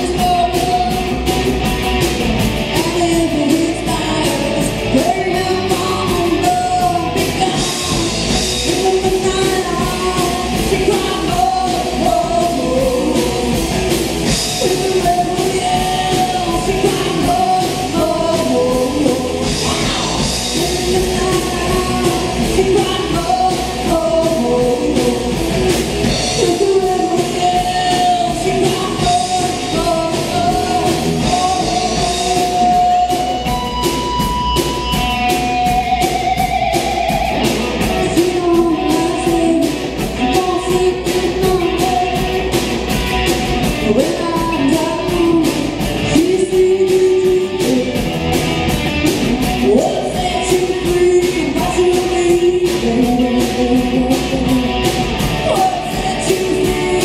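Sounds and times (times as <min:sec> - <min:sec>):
person singing: 0:00.0 - 0:01.4, 0:02.6 - 0:42.9, 0:43.6 - 0:48.4, 0:49.0 - 0:57.0
drums in a steady beat: 0:00.0 - 0:57.0
electric guitar: 0:00.0 - 0:57.0.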